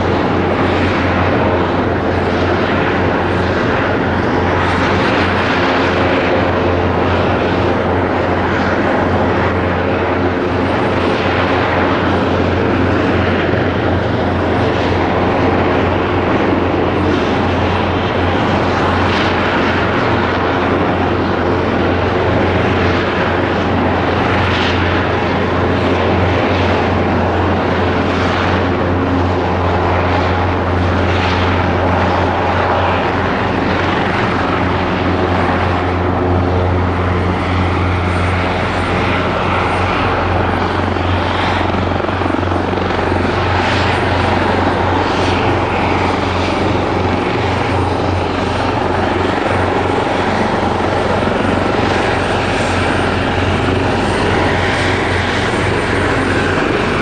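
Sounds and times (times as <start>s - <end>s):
helicopter rotor hum: 0.0s - 57.0s
helicopter turbine noise: 0.0s - 57.0s.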